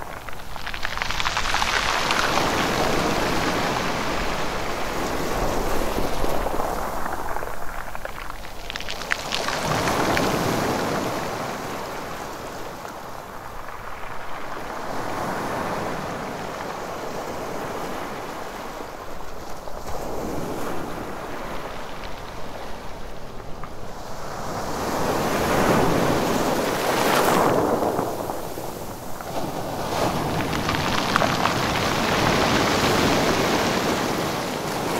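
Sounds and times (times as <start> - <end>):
sea waves on rocky beach: 0.0 - 34.9.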